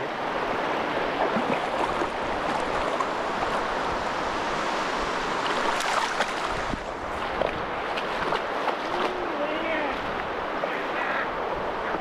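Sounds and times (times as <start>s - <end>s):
surf washing at shore: 0.0s - 12.0s.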